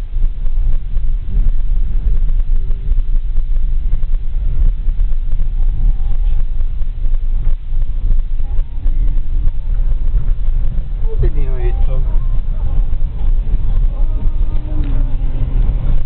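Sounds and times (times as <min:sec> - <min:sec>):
car rumbling over rocky track: 0:00.0 - 0:16.0.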